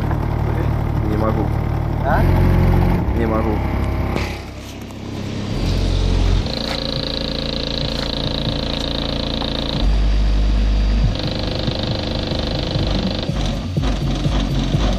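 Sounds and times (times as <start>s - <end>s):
bass-heavy music through car subwoofer: 0.0s - 14.9s.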